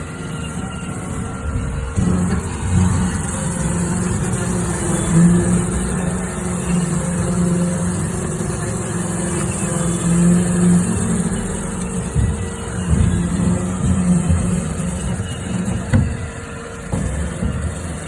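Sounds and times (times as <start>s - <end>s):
robot vacuum motor hum: 0.0s - 18.0s.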